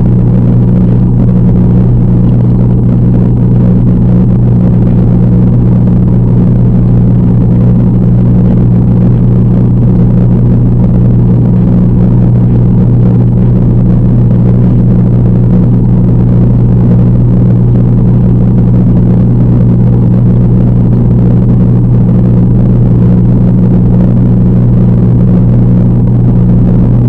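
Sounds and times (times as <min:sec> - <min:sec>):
aquarium pump hum underwater: 0:00.0 - 0:27.0.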